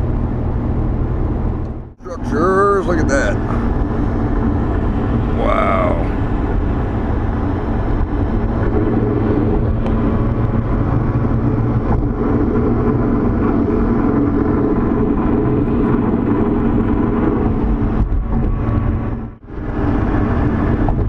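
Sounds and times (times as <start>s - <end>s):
car engine running at cruise: 0.0s - 21.0s
road rumble: 0.0s - 21.0s.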